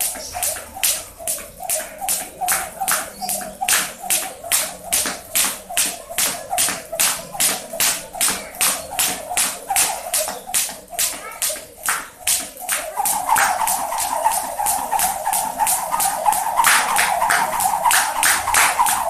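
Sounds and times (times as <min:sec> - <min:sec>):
jump rope slapping tiled floor: 0:00.0 - 0:19.0
sneakers landing: 0:00.0 - 0:19.0.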